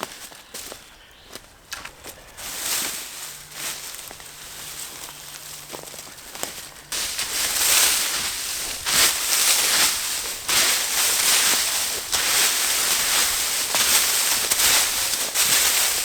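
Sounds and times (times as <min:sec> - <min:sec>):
dry leaves and sticks crunching: 0:00.0 - 0:16.0.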